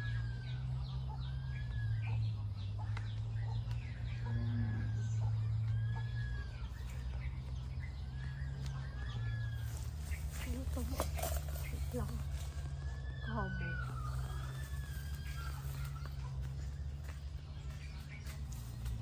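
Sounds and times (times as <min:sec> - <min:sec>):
bird calling: 0:00.0 - 0:19.0
steady low hum: 0:00.0 - 0:19.0.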